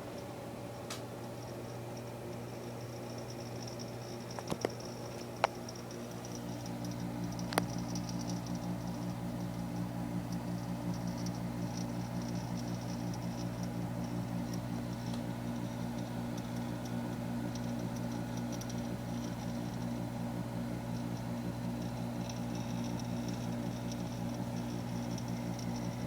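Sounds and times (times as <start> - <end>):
dehumidifier compressor humming: 0.0 - 26.0
rapid light metallic ticking: 1.2 - 26.0.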